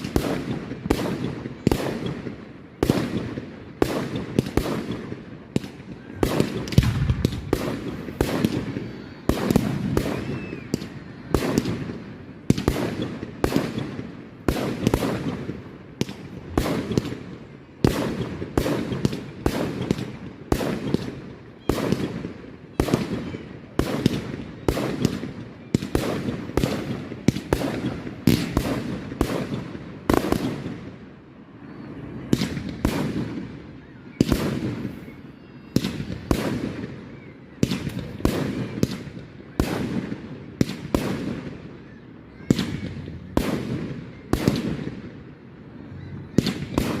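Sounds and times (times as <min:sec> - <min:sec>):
fireworks banging: 0:00.0 - 0:31.0, 0:32.2 - 0:35.2, 0:35.8 - 0:45.3
fireworks rumbling and crackling: 0:00.0 - 0:47.0.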